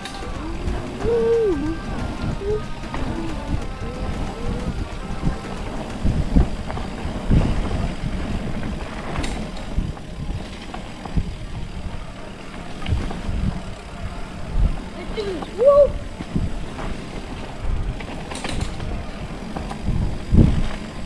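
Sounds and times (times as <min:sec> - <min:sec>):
tyres rumbling over dirt: 0:00.0 - 0:21.0.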